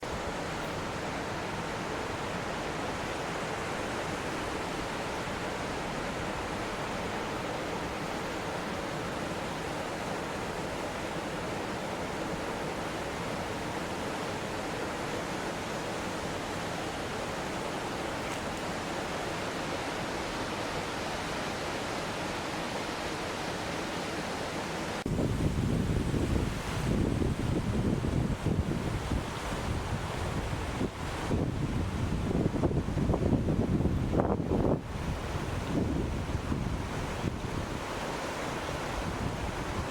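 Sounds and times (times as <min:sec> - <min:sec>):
stream over small waterfall: 0:00.0 - 0:39.9.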